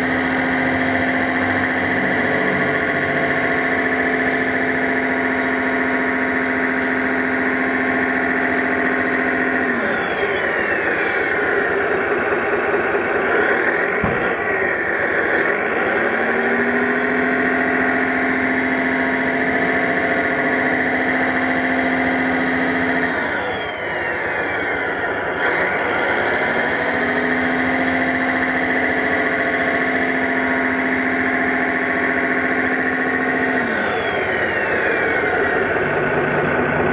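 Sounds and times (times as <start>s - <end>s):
toy tractor motor whining: 0.0s - 36.9s.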